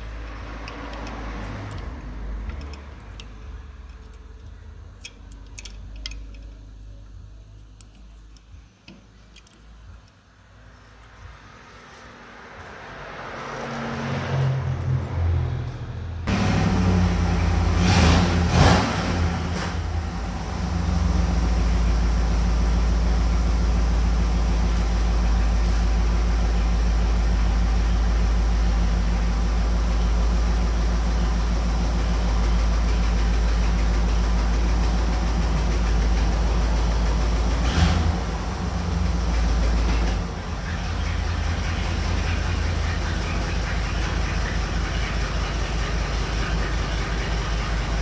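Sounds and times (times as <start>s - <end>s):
truck engine droning: 0.0s - 48.0s.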